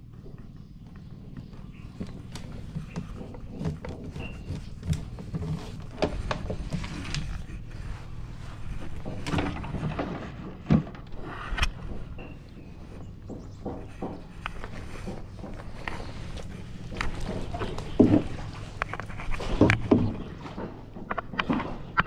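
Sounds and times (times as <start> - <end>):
knocks and scrapes on plastic kayak: 0.6 - 22.0.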